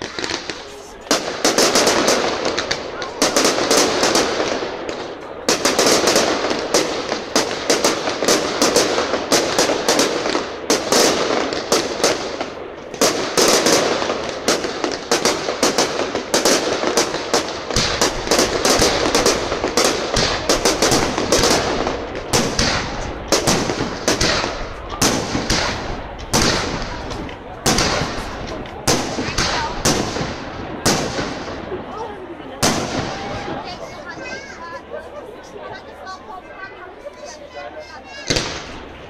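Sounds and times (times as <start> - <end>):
fireworks bangs: 0.0 - 39.0
fireworks crackling: 0.0 - 39.0.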